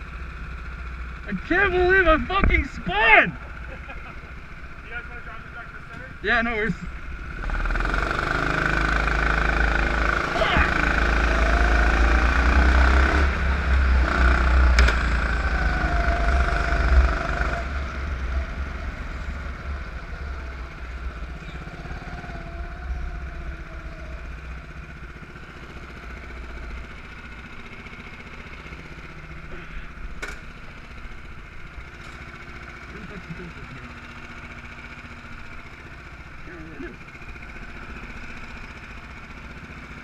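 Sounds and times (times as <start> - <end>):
go-kart engine running: 0.0 - 40.0.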